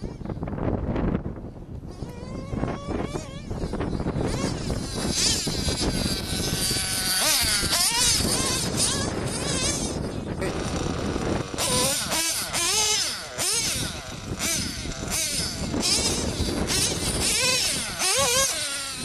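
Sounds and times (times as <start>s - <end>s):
small nitro engine revving: 0.0s - 1.2s, 1.8s - 19.0s.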